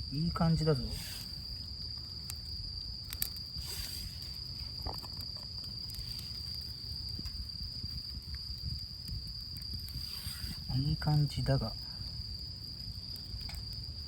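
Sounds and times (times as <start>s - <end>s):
campfire crackles: 0.0s - 14.0s
insects trilling: 0.0s - 14.0s.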